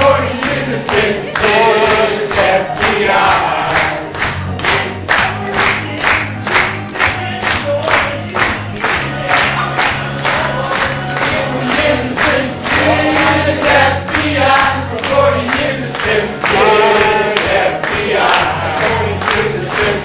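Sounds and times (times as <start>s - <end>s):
group of voices singing: 0.0s - 20.0s
music with beat and bass: 0.0s - 20.0s.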